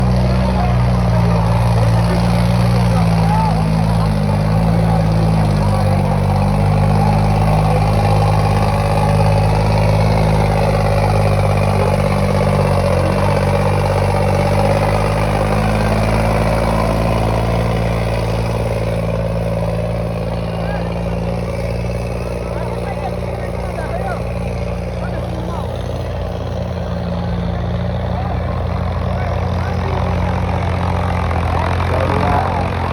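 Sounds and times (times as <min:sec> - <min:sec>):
diesel tractor engine running: 0:00.0 - 0:32.9.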